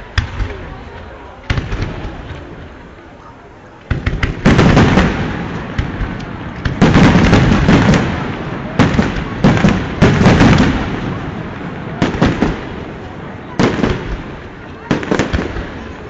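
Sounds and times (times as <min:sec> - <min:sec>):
loud fireworks bangs: 0:00.0 - 0:03.1, 0:03.8 - 0:16.0
fireworks bursting and crackling: 0:00.0 - 0:16.0.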